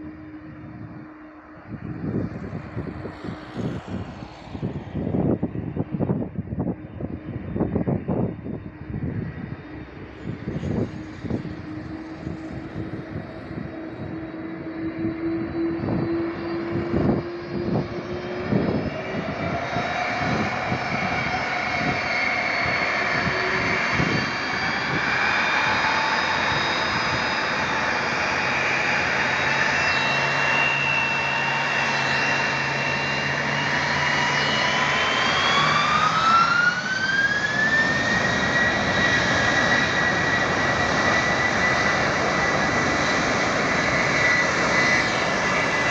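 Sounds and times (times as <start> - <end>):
jet engines spooling up: 0.0 - 45.9
wind gusts on microphone: 0.0 - 45.9.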